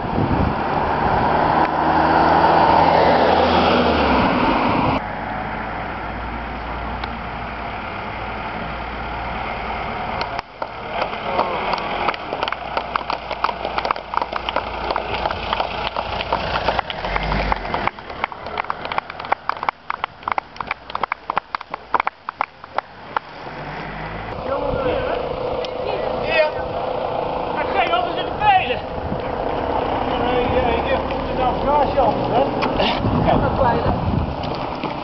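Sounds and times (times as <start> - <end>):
car engine and tyre noise: 0.0 - 35.0
vehicle passing closely: 0.0 - 35.0.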